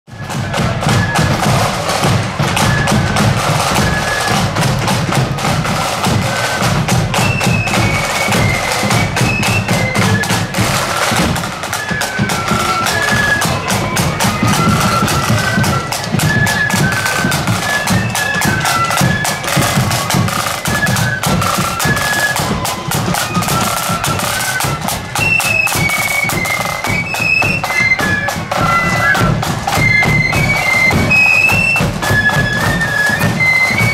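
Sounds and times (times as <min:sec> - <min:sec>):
marching drums beat: 0:00.1 - 0:33.9
high-pitched melody instruments: 0:00.2 - 0:33.9.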